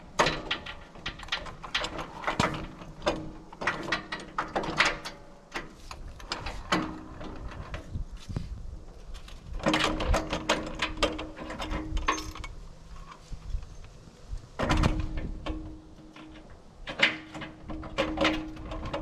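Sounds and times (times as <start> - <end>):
metal crank clicking and clanking: 0.0 - 7.8, 9.6 - 13.2, 14.6 - 19.0.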